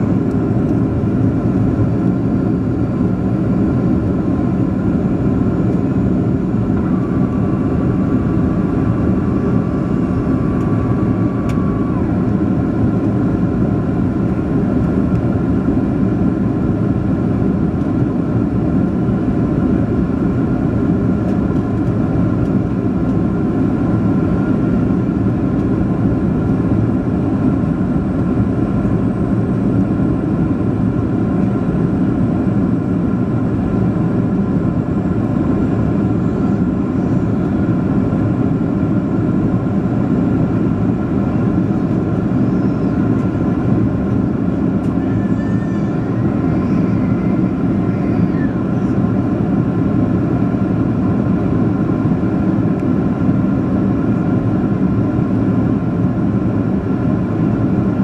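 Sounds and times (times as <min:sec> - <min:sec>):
air rushing along fuselage: 0:00.0 - 0:57.6
jet engines droning: 0:00.0 - 0:58.0.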